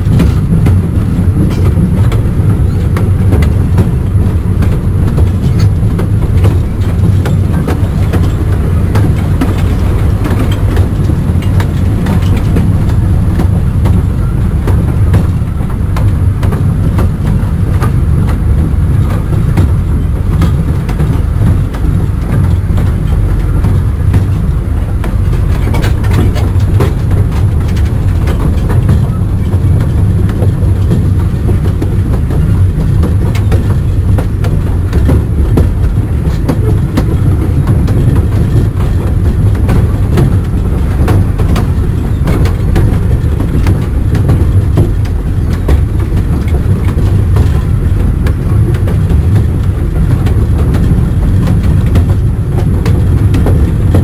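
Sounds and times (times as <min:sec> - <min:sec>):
train running low rumble: 0:00.0 - 0:54.0
wheels clicking on track: 0:00.0 - 0:54.0.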